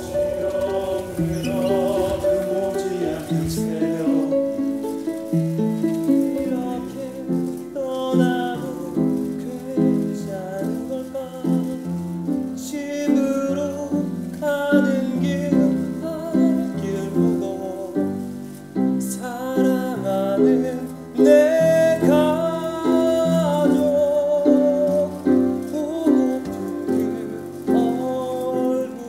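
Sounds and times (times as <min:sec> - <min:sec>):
instrumental accompaniment: 0:00.0 - 0:29.0
man singing with vibrato: 0:00.0 - 0:29.0.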